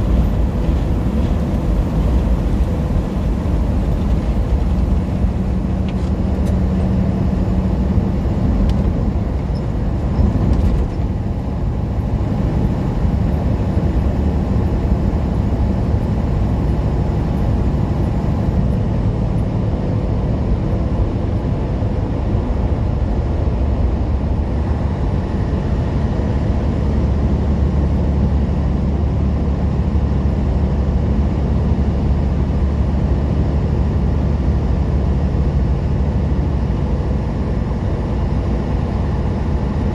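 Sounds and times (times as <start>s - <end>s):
diesel engine droning: 0.0s - 39.9s
road noise: 0.0s - 39.9s.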